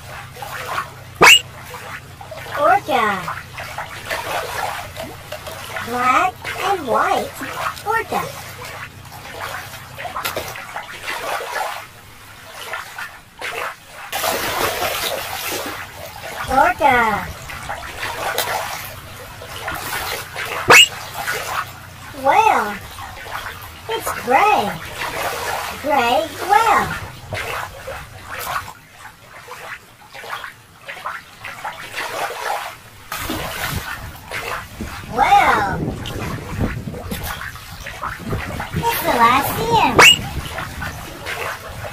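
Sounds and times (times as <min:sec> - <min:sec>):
water splashing and sloshing: 0:00.0 - 0:41.9.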